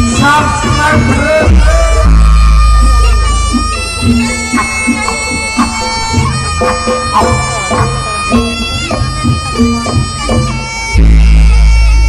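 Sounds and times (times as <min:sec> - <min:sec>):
drums beating steadily: 0:00.0 - 0:12.0
shawm playing reedy melody: 0:00.0 - 0:12.0.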